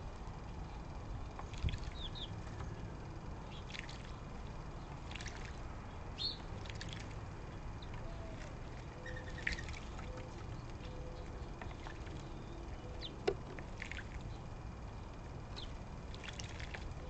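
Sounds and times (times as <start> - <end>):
steady low rumble: 0.0 - 17.0
birds splashing water: 1.2 - 17.0.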